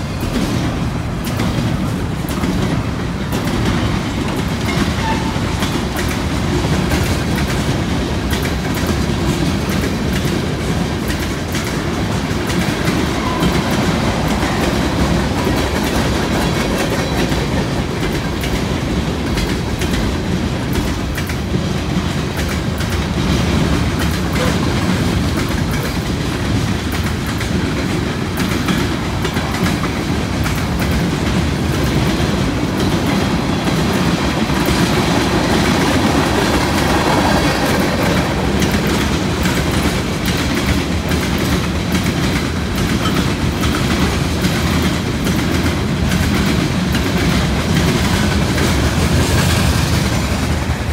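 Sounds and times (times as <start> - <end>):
freight train rumbling past: 0.0 - 50.9
wheels clicking over rail joints: 0.0 - 50.9.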